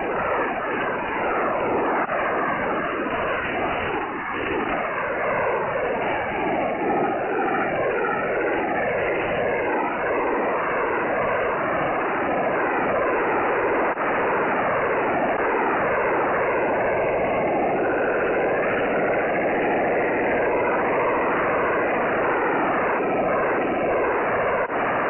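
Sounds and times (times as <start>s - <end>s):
shortwave sweeping tones and noise: 0.0s - 25.0s.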